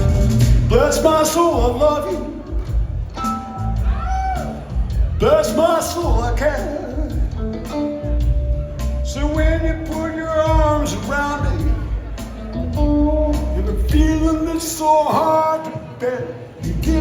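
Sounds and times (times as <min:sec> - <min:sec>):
bass guitar: 0:00.0 - 0:15.3, 0:16.6 - 0:17.0
electric guitar melodic lines: 0:00.0 - 0:15.9
drums: 0:00.0 - 0:17.0.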